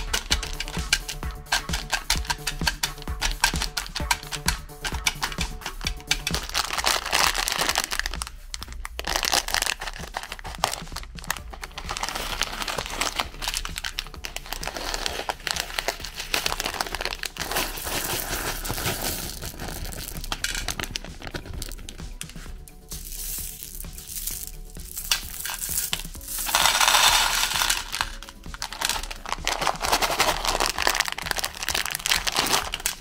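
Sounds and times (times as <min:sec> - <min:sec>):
plastic packets crackling and rustling: 0:00.0 - 0:33.0.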